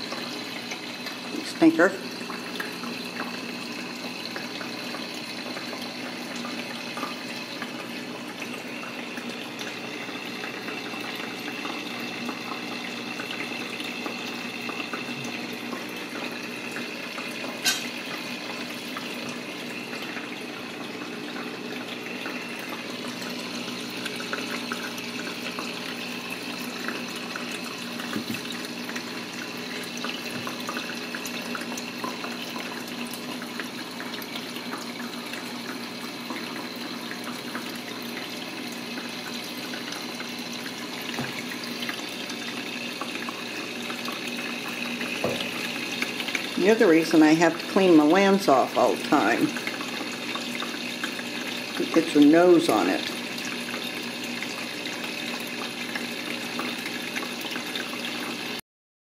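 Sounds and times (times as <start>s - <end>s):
water trickling and splashing: 0.0s - 58.6s.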